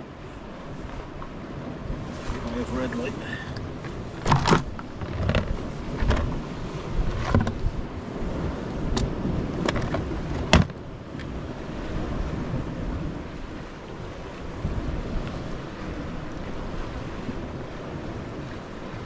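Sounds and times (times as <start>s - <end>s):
surf on rocks: 0.0s - 19.0s
wind buffeting microphone: 0.0s - 19.0s.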